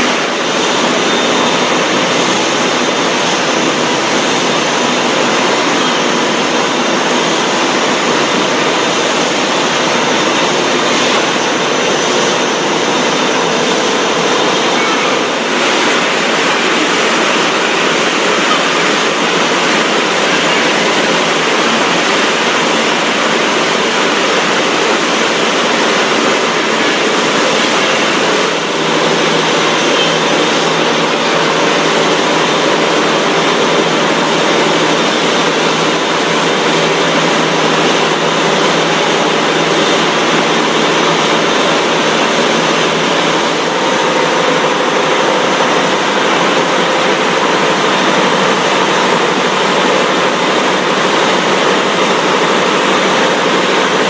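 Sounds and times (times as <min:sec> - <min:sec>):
food-processing machinery din: 0:00.0 - 0:54.0.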